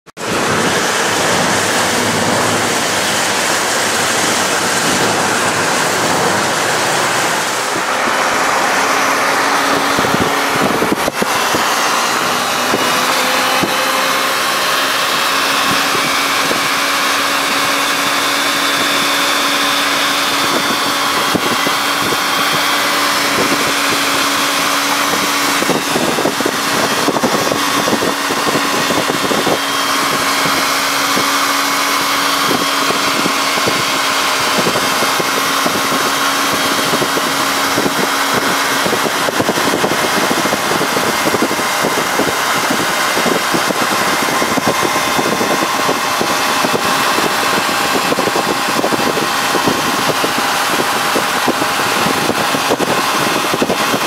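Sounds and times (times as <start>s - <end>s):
vehicle engine drone: 0.0s - 54.0s
wind and tyres on wet road: 0.2s - 54.0s.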